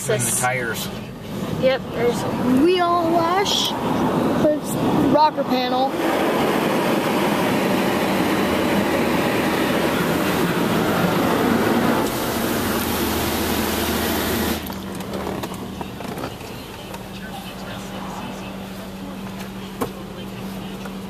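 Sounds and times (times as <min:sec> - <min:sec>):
water jets spraying car: 0:00.0 - 0:20.9.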